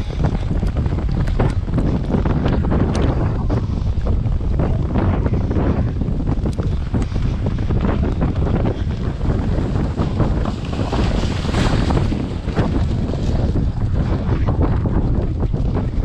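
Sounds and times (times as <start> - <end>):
galloping hoofbeats: 0.0 - 16.0
wind buffeting microphone: 0.0 - 16.0.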